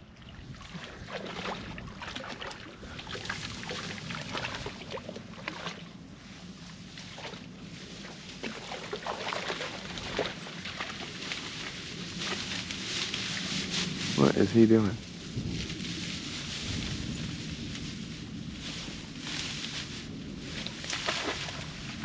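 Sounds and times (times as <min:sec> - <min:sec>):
dry grass rustling and crackling: 0:00.8 - 0:22.0.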